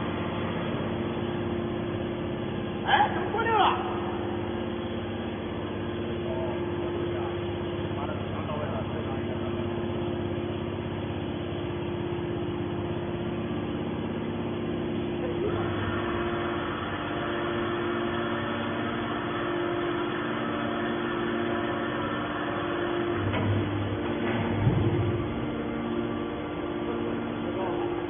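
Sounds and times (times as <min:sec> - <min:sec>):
hydraulic baler humming: 0:00.0 - 0:28.0.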